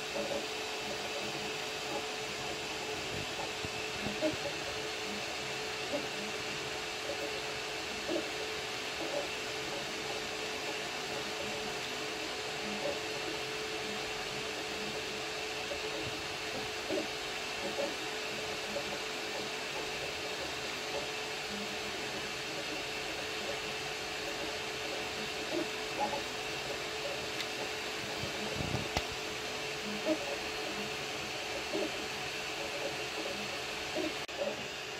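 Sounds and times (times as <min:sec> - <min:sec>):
cooling fans whirring: 0:00.0 - 0:34.9
steady hum: 0:00.0 - 0:34.9.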